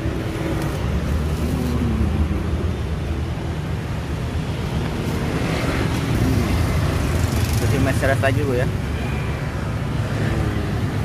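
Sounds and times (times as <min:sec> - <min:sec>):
low rumble of road traffic: 0:00.0 - 0:11.0.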